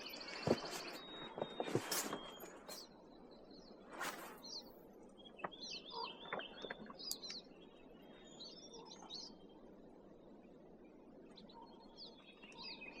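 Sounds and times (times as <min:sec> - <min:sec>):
small songbirds chirping: 0:00.0 - 0:13.0.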